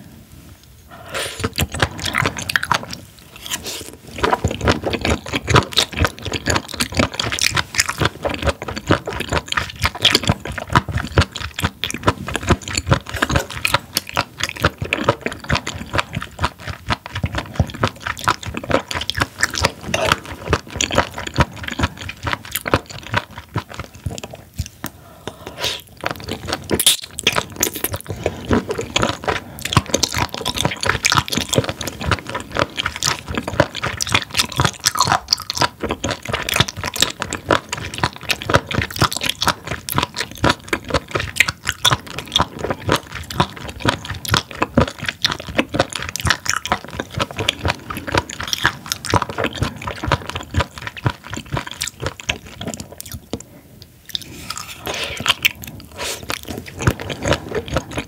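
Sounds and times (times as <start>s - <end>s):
crunchy wet chewing: 0.9s - 58.0s.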